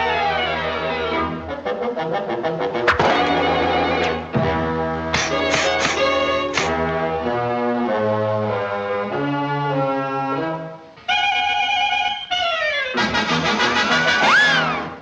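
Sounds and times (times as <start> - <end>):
brass-led cartoon orchestra music: 0.0 - 15.0.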